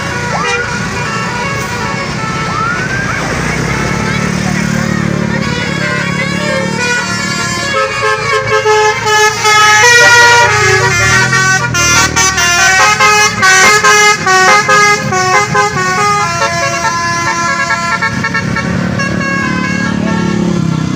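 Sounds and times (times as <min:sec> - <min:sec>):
bus engine running: 0:00.0 - 0:20.9.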